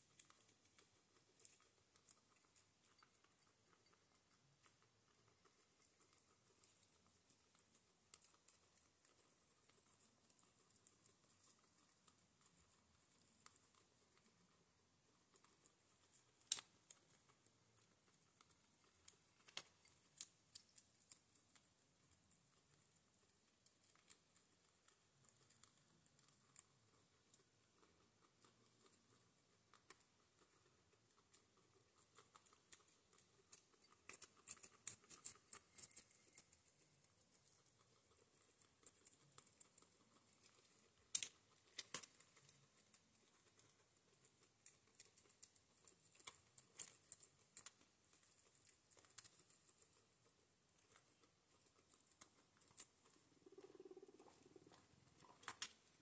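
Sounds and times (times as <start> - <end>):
guinea pigs crunching pellets: 0.0 - 56.0.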